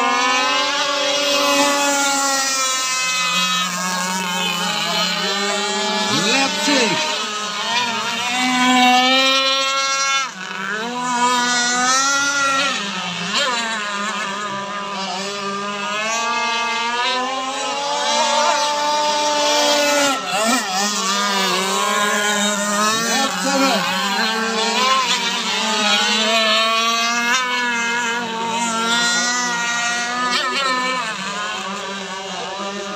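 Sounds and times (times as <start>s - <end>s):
high-pitched boat motors droning: 0.0s - 32.9s.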